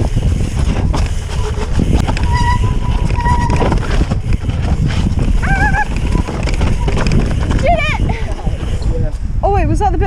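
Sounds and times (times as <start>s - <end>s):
mountain bike rumbling and rattling: 0.0s - 10.0s
wind buffeting microphone: 0.0s - 10.0s
brake squeal: 0.1s - 9.2s.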